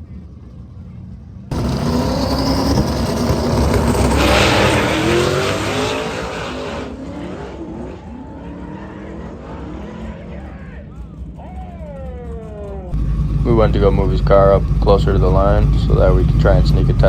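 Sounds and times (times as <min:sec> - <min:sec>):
race car accelerating: 0:00.0 - 0:17.0.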